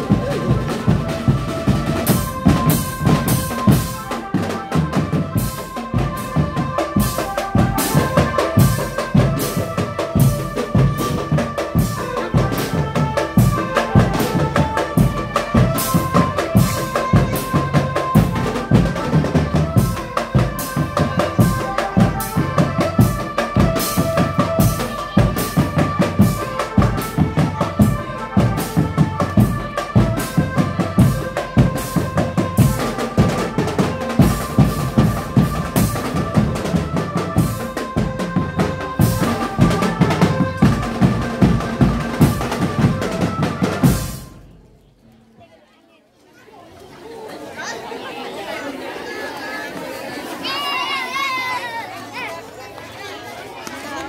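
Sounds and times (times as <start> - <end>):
marching drums: 0.0 - 44.8.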